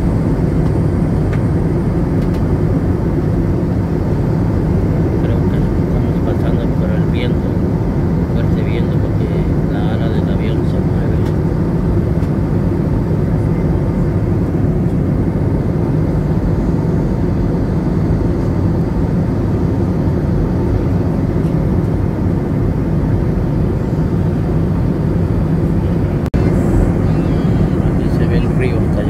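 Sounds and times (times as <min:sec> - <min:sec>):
jet airliner cabin noise: 0:00.0 - 0:29.0.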